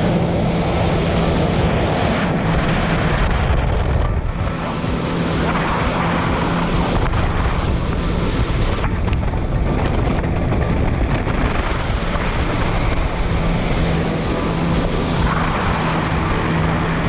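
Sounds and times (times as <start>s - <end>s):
jet ski engine running: 0.0s - 17.0s
water rushing: 0.0s - 17.0s.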